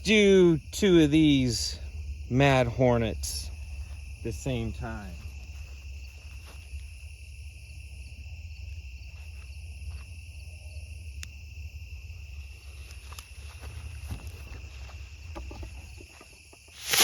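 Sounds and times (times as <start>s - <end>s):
low steady rumble: 0.0s - 15.3s
crickets chirping: 0.0s - 17.0s.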